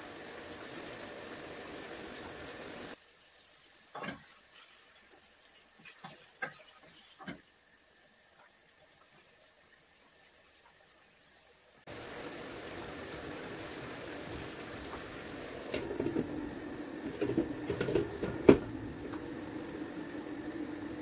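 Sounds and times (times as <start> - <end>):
livers sizzling in a pan: 0.0 - 21.0.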